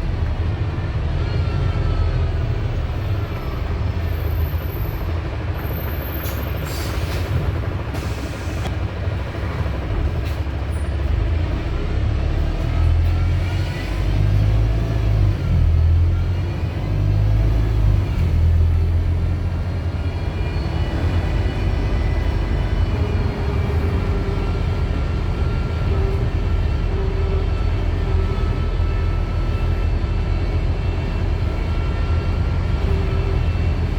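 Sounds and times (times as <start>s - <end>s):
bus engine drone: 0.0s - 33.9s.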